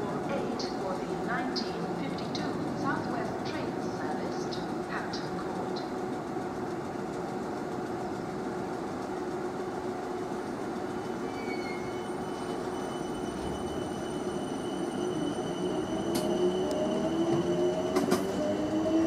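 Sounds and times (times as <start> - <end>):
electric train rumble and hum: 0.0 - 19.0.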